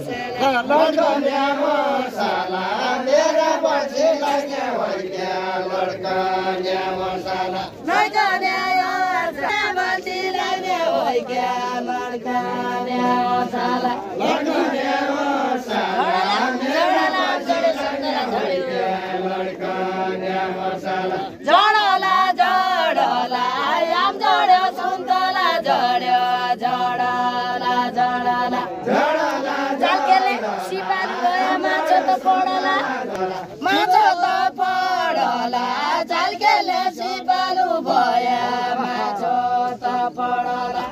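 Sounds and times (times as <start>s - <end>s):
men singing unaccompanied: 0.0s - 40.9s.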